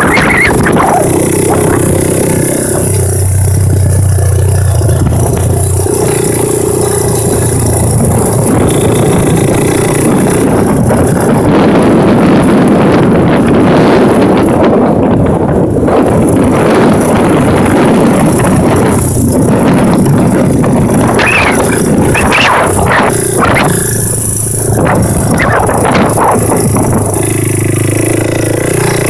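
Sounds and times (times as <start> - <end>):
all-terrain vehicle engine running: 0.0 - 29.0.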